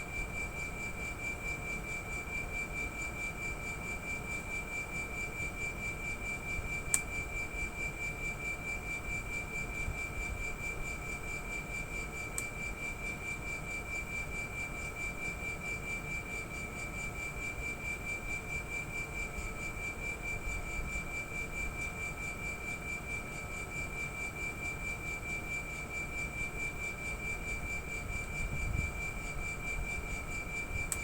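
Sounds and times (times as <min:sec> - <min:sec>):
compressor high-pitched whine: 0:00.0 - 0:31.0.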